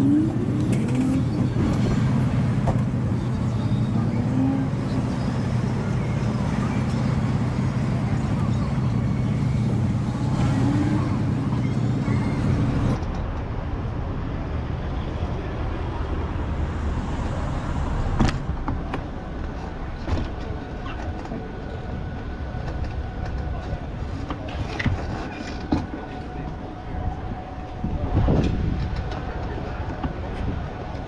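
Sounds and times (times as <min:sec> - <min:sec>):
vehicle engine running close by: 0:00.0 - 0:26.4
road traffic: 0:00.0 - 0:31.0.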